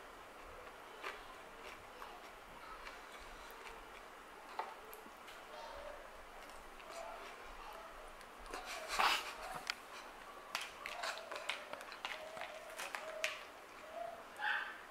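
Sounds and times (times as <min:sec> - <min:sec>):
crunchy chewing: 0:00.3 - 0:14.6.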